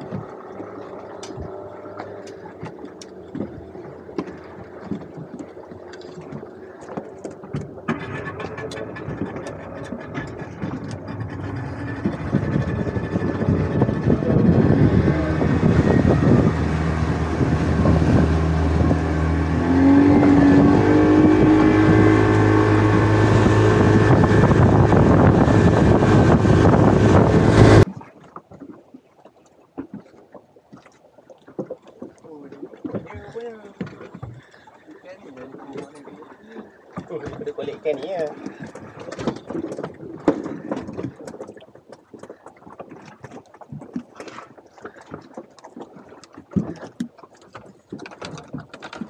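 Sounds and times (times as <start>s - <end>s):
boat motor running: 0.0s - 27.9s, 31.6s - 42.3s, 43.7s - 49.0s.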